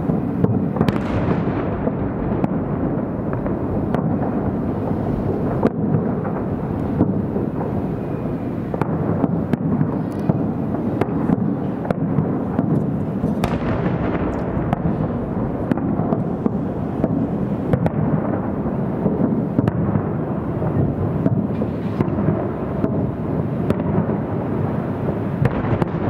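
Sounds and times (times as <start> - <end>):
firework booms: 0.0 - 26.0
firework cracks: 0.0 - 26.0.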